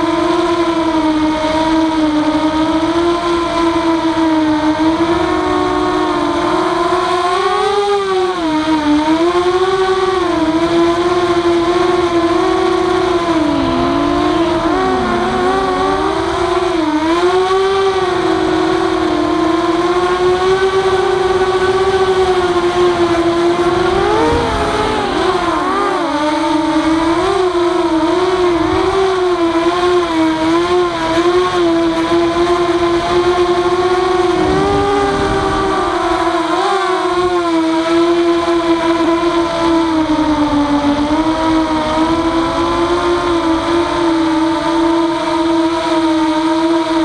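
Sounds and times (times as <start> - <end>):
quadcopter motors whining: 0.0 - 47.0.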